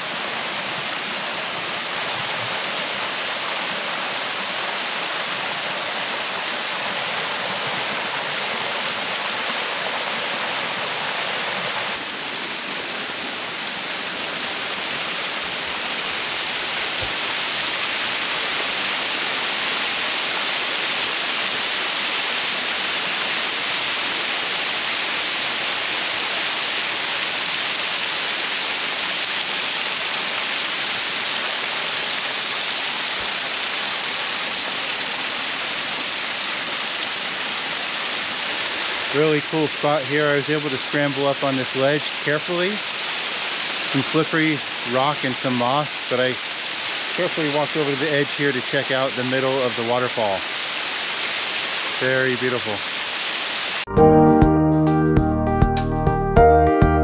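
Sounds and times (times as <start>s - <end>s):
waterfall roaring: 0.0s - 53.9s.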